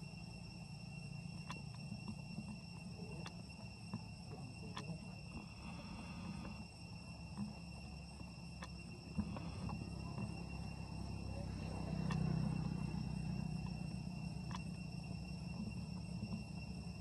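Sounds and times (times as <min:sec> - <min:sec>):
high-pitched insect drone: 0:00.0 - 0:17.0
low rumble: 0:00.0 - 0:17.0.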